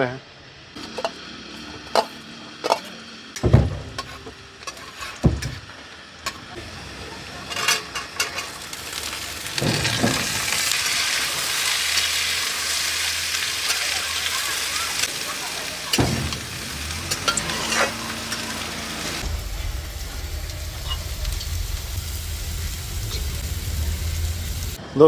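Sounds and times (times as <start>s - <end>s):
vegetables sizzling in oil: 0.6s - 24.8s.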